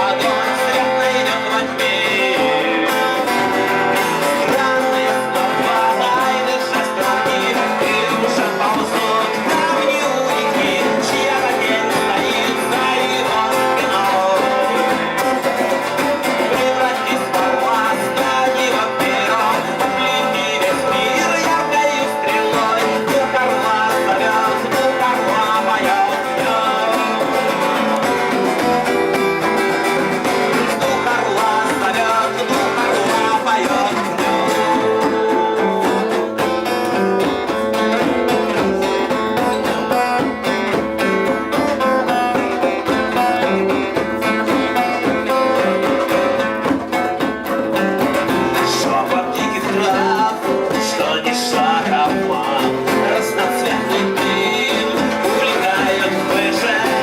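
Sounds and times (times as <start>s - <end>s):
instrumental guitar music: 0.0s - 57.0s.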